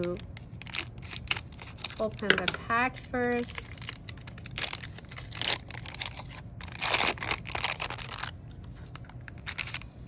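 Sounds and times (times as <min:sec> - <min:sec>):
plastic packet crinkling: 0:00.0 - 0:10.0.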